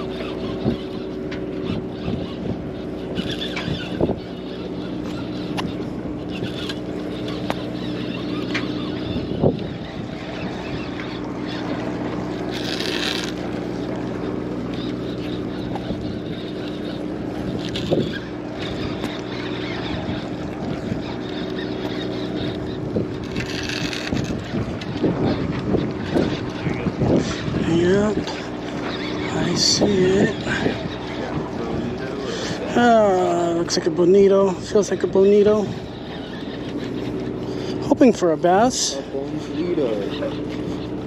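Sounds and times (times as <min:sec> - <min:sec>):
boat engine humming: 0:00.0 - 0:41.0
water noise: 0:00.0 - 0:41.0
wind: 0:00.0 - 0:41.0.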